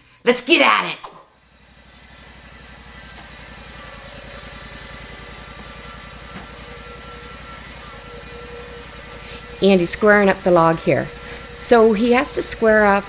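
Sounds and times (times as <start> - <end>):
sawmill engine running: 1.4 - 13.0.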